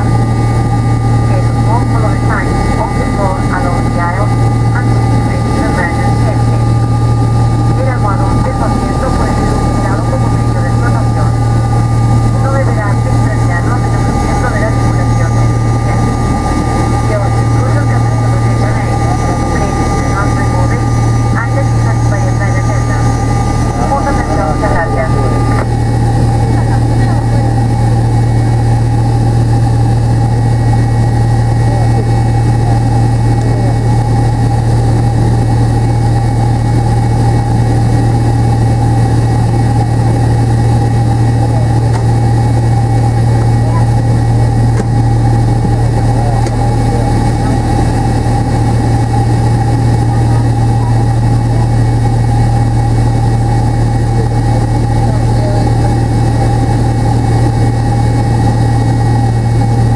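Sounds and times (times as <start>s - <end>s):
faint steady engine whine: 0.0s - 59.9s
jet engines low hum in cabin: 0.0s - 59.9s.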